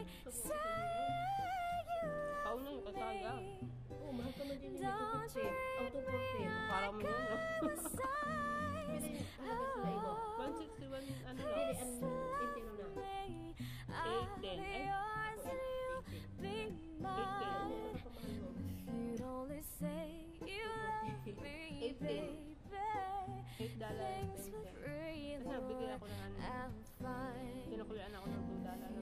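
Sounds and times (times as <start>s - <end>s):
woman singing with backing music: 0.0s - 29.0s.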